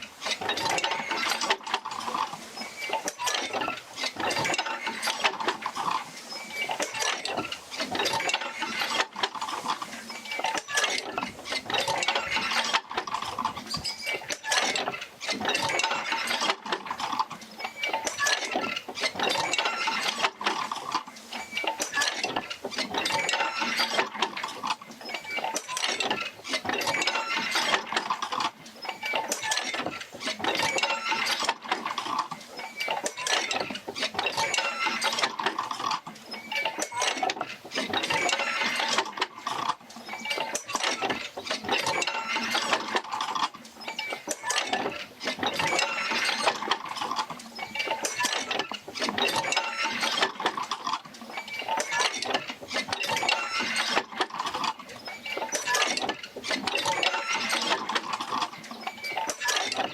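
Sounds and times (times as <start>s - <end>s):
wooden and metal clanks and creaks: 0.0s - 59.9s.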